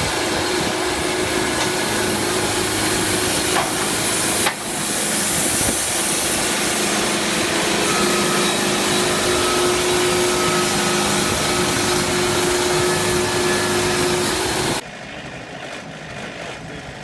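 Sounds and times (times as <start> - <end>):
humming tone: 0.0 - 14.8
engine running: 0.0 - 17.0
sawmill saw running: 0.0 - 17.0.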